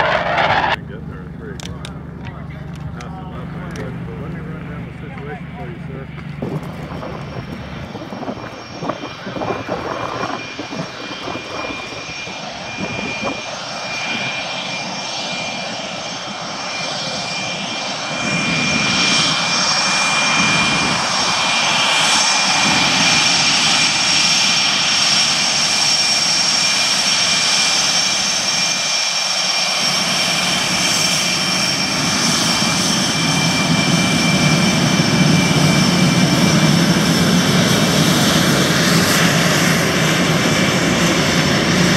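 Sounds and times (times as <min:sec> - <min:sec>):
jet engine whine: 0:00.0 - 0:41.9.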